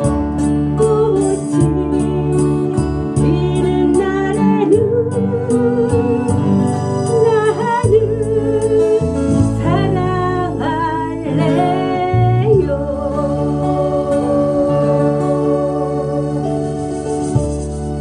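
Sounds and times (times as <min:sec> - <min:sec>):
woman singing a ballad: 0:00.0 - 0:17.0
strummed acoustic guitar: 0:00.0 - 0:18.0.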